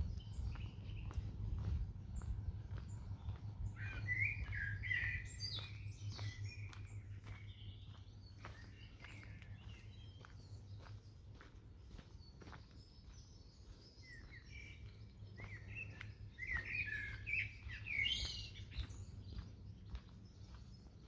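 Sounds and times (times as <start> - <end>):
songbirds singing and chirping: 0.0 - 21.0.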